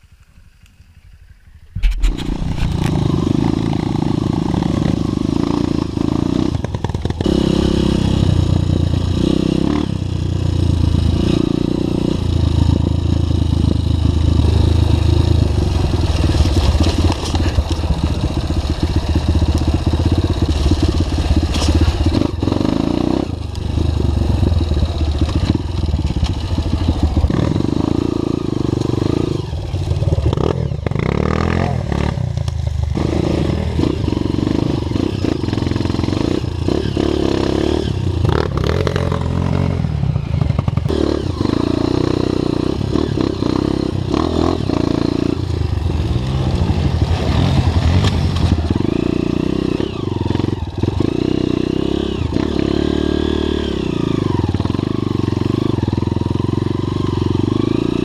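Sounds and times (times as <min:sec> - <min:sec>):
motorcycle engine revving: 0:01.7 - 0:58.0.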